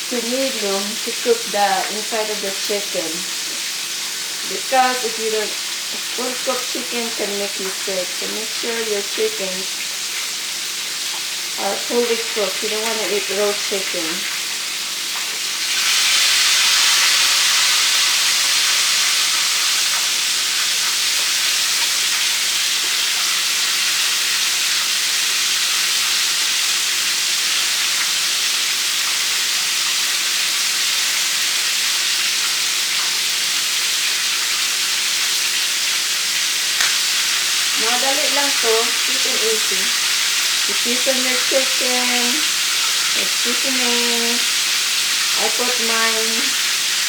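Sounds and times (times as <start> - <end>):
chicken frying in hot oil: 0.0 - 47.0.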